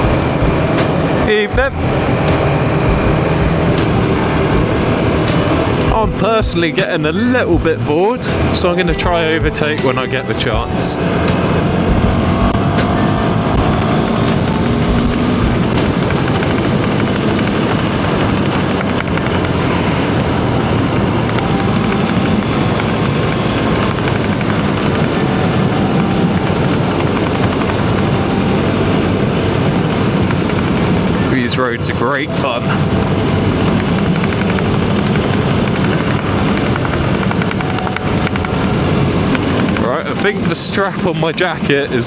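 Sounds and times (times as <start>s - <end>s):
faint repeated tapping: 0.0s - 41.5s
motorcycle engine running: 0.0s - 41.8s
wind rush on microphone: 0.0s - 42.0s.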